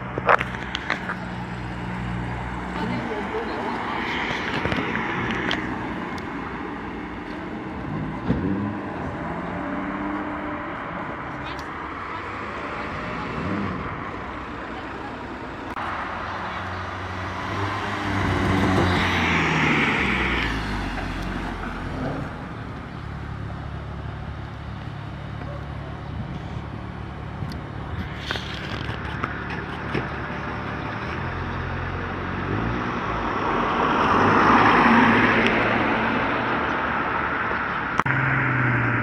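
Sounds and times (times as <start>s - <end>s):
car engine idling: 0.0s - 32.4s
car passing: 0.0s - 39.0s.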